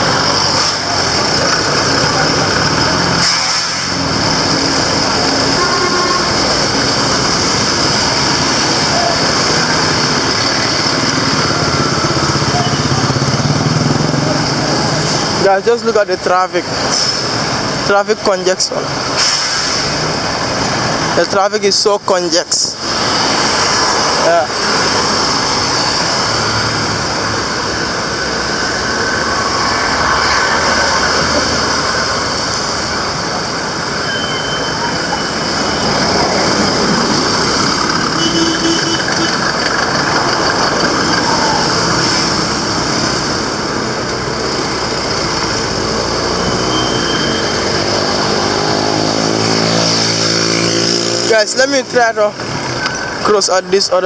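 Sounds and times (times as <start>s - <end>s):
vehicle engines idling in traffic: 0.0s - 54.0s.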